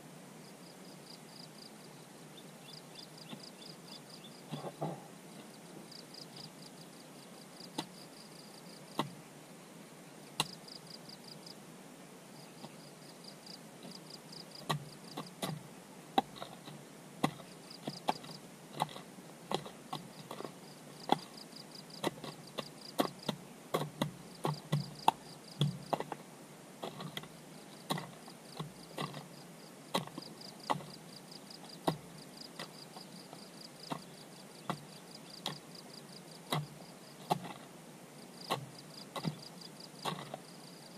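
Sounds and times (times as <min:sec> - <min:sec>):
insects chirping: 0:00.0 - 0:11.7, 0:12.3 - 0:40.9.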